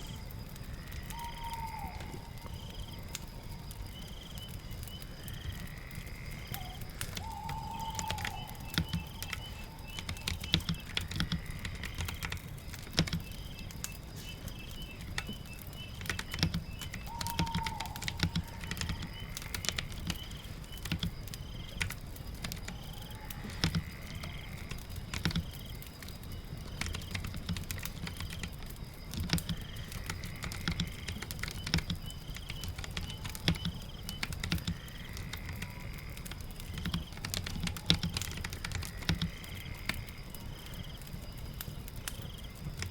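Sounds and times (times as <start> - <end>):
fire crackling: 0.0 - 42.9
rain: 0.0 - 42.9.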